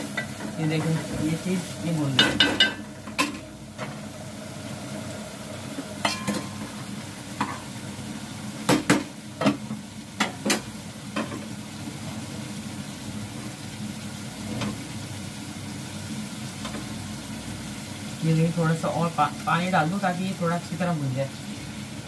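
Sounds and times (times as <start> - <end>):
meat sizzling in a pot: 0.0 - 22.0.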